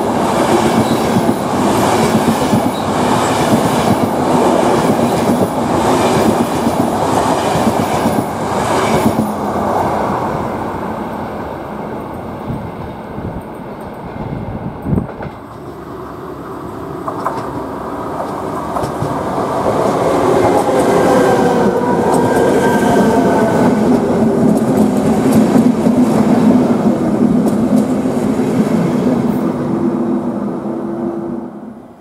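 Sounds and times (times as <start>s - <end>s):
train wheels on rails: 0.0s - 30.7s.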